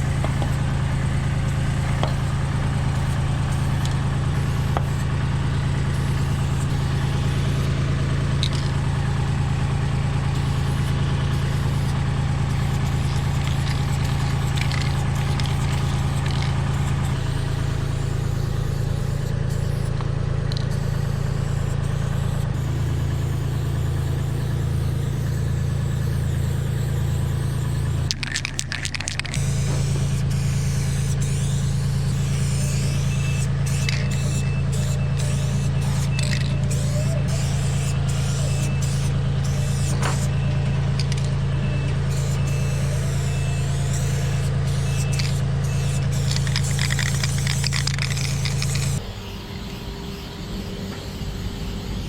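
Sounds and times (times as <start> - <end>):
engine low hum: 0.0 - 52.0
spray paint can hissing: 0.0 - 52.0.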